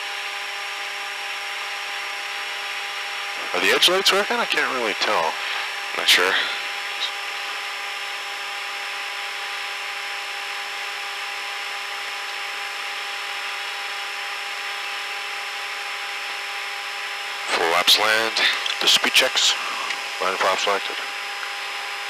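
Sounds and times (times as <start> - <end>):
constant whining tones: 0.0 - 22.0
airflow rushing in cockpit: 0.3 - 22.0.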